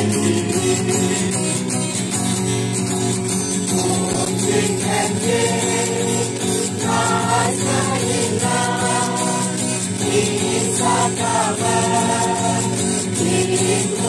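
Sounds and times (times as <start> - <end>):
women and children singing: 0.0 - 1.6, 3.7 - 14.0
guitar: 0.0 - 14.0.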